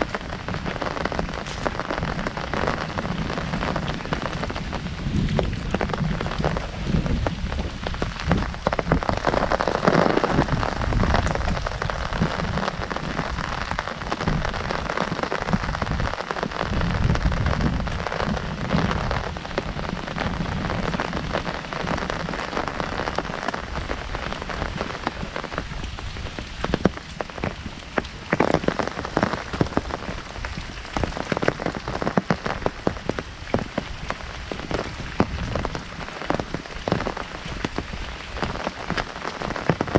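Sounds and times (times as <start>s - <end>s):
heavy rain on an umbrella: 0.0s - 39.9s.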